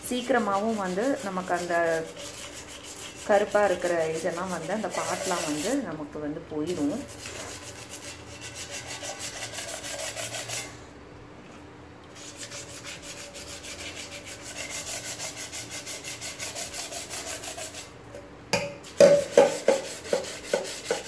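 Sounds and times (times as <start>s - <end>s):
sandpaper scrubbing a steel pan: 0.0s - 5.8s, 6.8s - 10.8s, 12.2s - 18.0s, 18.9s - 21.0s.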